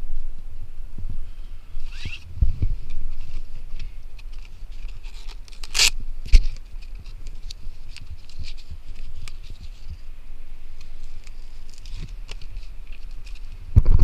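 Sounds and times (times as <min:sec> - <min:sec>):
clothing rustling on microphone: 0:00.0 - 0:14.0
steady low rumble: 0:00.0 - 0:14.0.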